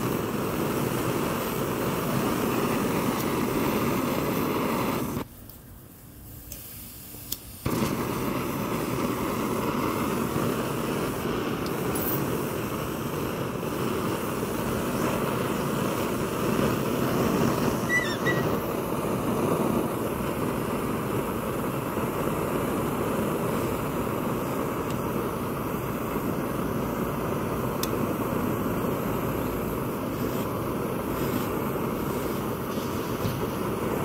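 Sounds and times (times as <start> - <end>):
pressure stove burner roaring: 0.0 - 34.0.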